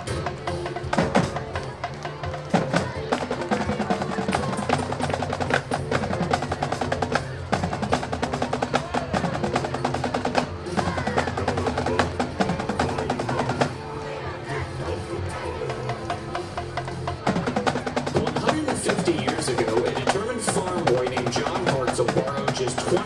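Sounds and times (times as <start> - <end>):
drums playing fast rhythm: 0.0 - 13.8, 15.6 - 23.0.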